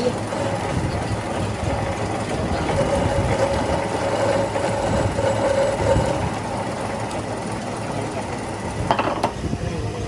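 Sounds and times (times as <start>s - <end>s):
milling machine running: 0.0s - 10.0s.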